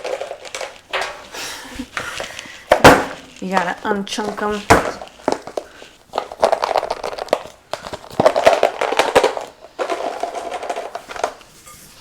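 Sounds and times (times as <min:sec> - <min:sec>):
granola crackling as stirred: 0:00.0 - 0:12.0.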